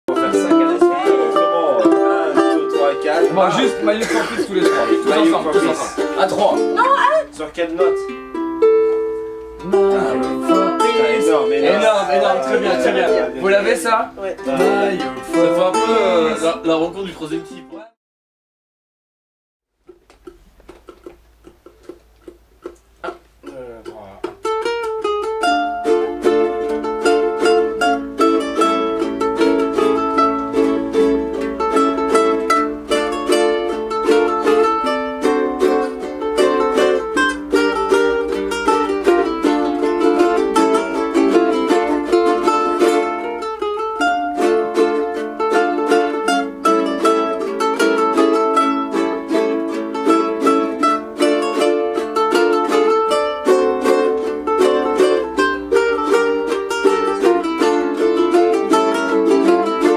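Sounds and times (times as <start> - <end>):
soft plucked ukulele notes: 0.1 - 17.7, 19.8 - 59.9
ukuleles strumming chords: 0.1 - 17.9, 19.8 - 59.9.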